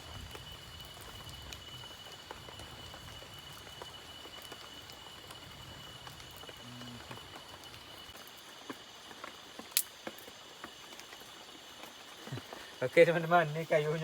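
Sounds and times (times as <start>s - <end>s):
drizzle hiss: 0.0s - 14.0s.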